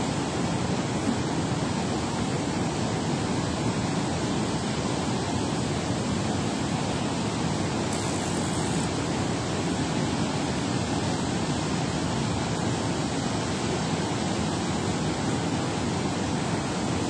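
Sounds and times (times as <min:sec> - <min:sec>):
water rushing through dam spillway: 0:00.0 - 0:17.0.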